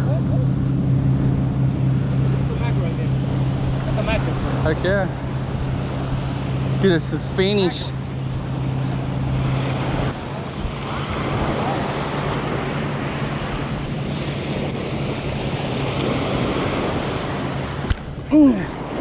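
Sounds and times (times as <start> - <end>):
steady low hum: 0.0 - 19.0
wind buffeting microphone: 0.0 - 19.0
surf waves breaking on sand: 1.2 - 19.0.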